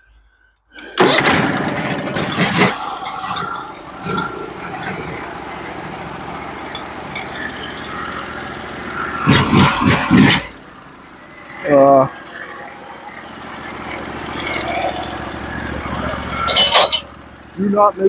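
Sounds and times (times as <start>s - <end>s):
sawmill engine starting and running: 0.8s - 18.0s.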